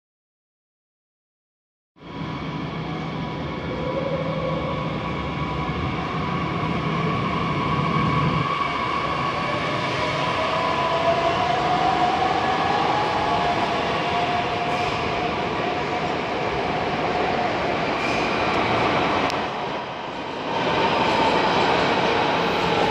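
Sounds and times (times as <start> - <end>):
train running noise: 2.0 - 22.9.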